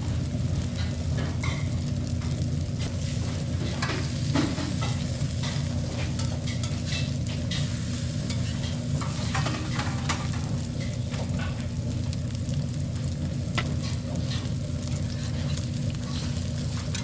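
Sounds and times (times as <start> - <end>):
food frying: 0.0 - 17.0.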